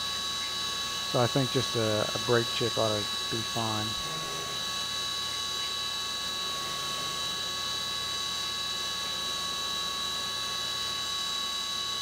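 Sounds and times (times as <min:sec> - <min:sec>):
high-pitched spindle whine: 0:00.0 - 0:12.0.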